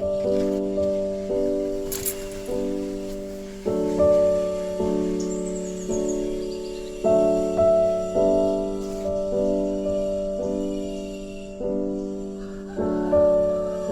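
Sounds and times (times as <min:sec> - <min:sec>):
slow piano chords: 0:00.0 - 0:13.9.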